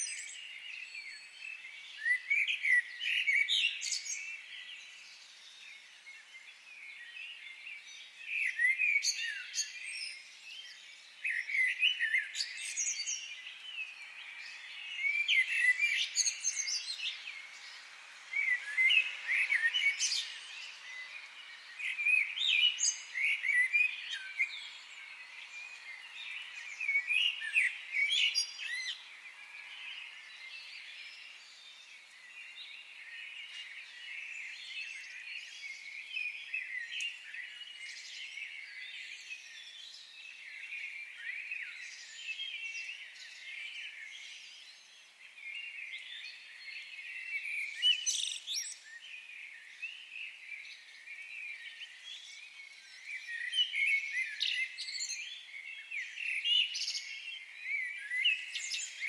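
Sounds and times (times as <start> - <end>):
faint background hiss: 0.0 - 59.0
songbirds singing: 0.0 - 59.0.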